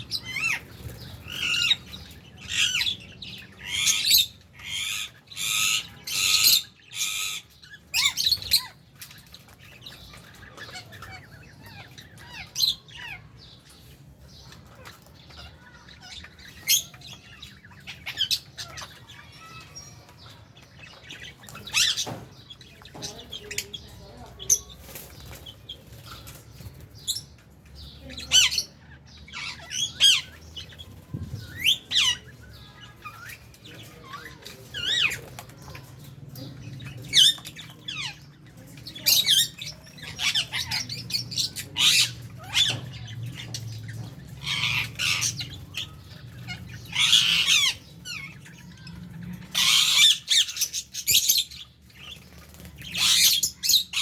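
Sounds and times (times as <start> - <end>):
lovebirds squawking: 0.0 - 54.0.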